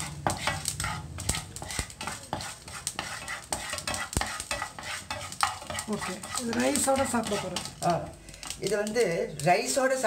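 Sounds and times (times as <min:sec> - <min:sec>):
light sizzle: 0:00.0 - 0:10.0
wooden spatula scraping pan: 0:00.0 - 0:10.0.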